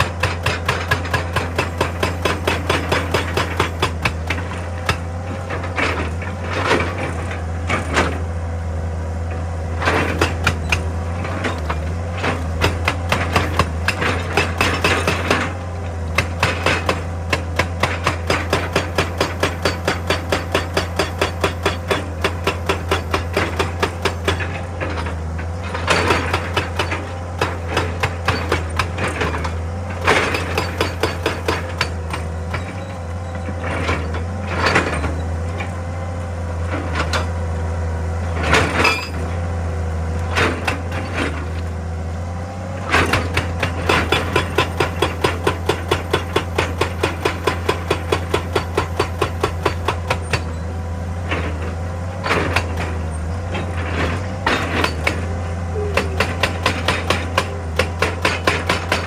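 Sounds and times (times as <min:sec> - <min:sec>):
diesel engine running: 0:00.0 - 0:59.0
hydraulic rock breaker hammering: 0:00.0 - 0:59.0.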